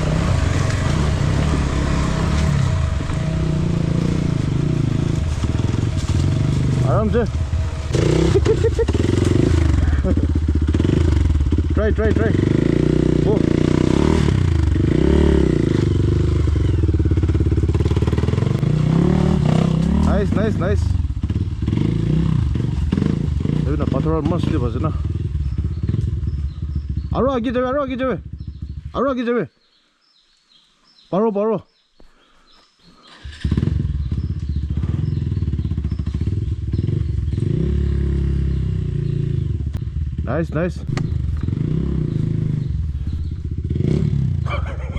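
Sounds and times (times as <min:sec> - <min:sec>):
motorcycle engine revving: 0:00.0 - 0:29.8, 0:33.0 - 0:44.9.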